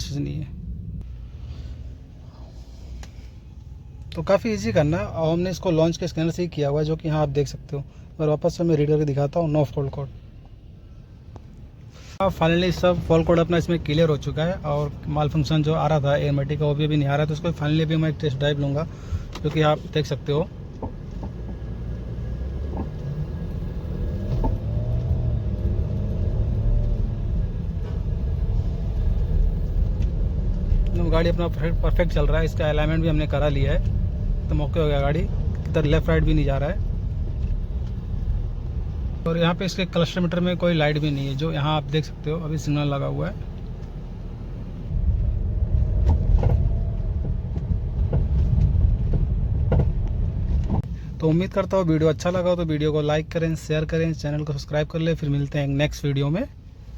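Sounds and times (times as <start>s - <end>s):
road and drivetrain rumble: 0.0s - 56.9s.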